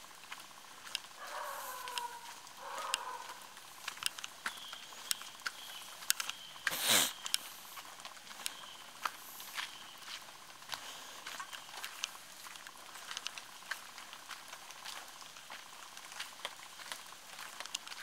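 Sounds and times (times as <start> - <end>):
drops ticking on leaves: 0.0 - 18.0
rain pattering: 0.0 - 18.0.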